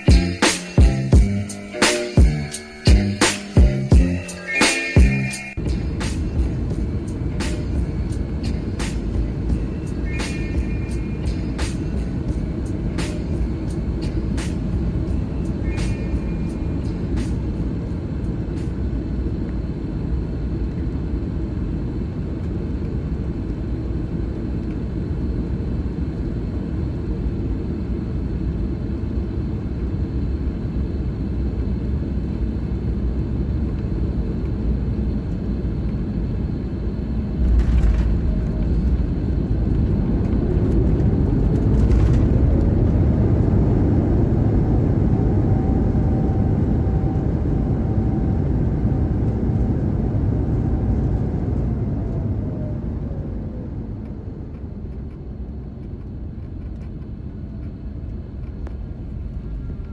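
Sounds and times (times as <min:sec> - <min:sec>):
airplane cabin rumble: 0:00.0 - 0:59.9
jet engine whine: 0:00.0 - 0:59.9.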